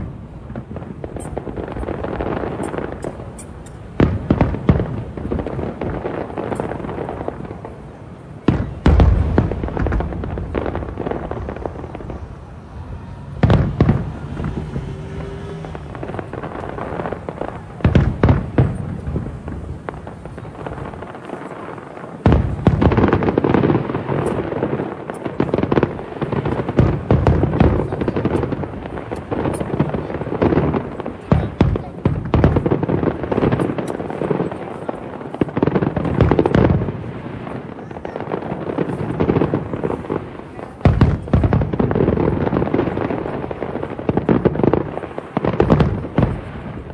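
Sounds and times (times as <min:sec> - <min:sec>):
fireworks booming and crackling: 0:00.0 - 0:46.9
rapid firework bangs: 0:00.0 - 0:46.9.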